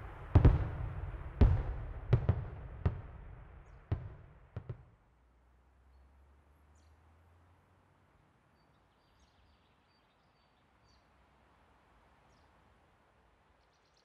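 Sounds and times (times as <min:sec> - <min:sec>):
faint outdoor ambience hiss: 0:00.0 - 0:14.0.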